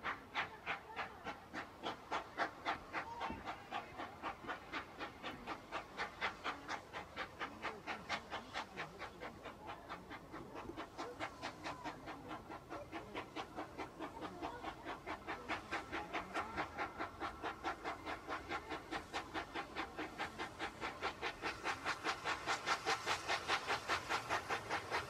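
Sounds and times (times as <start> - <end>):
steam locomotive chuffing: 0.0 - 25.0.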